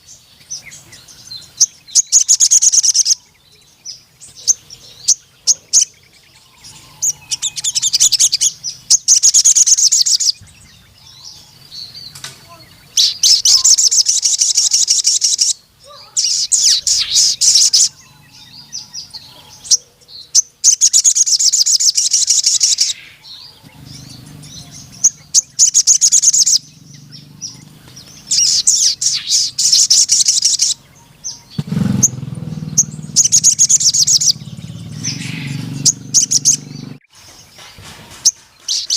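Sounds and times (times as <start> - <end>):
bird singing chattering trills: 0.0 - 38.9.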